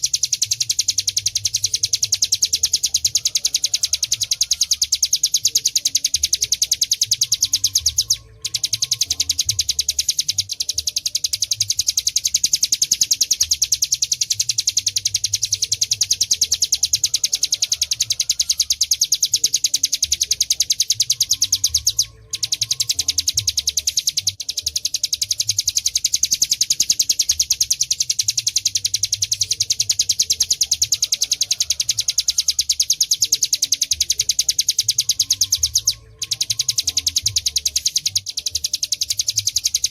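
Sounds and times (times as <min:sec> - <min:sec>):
bird high-pitched rattling trill: 0:00.0 - 0:39.9.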